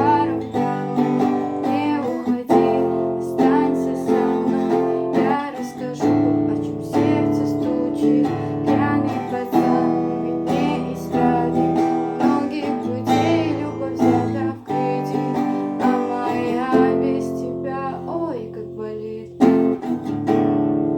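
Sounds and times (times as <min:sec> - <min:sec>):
acoustic guitar strumming chords: 0:00.0 - 0:20.9.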